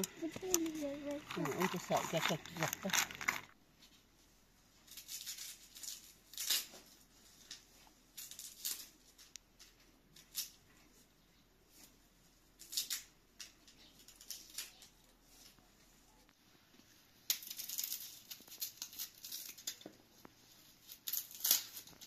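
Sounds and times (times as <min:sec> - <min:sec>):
leafy stems rustling and snapping: 0:00.0 - 0:03.6, 0:04.9 - 0:11.0, 0:12.6 - 0:16.0, 0:17.2 - 0:22.0.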